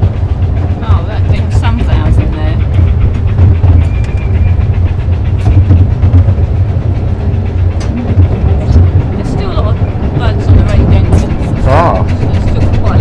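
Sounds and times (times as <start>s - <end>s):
train low rumble: 0.0s - 13.0s
train wheels clicking: 0.0s - 13.0s.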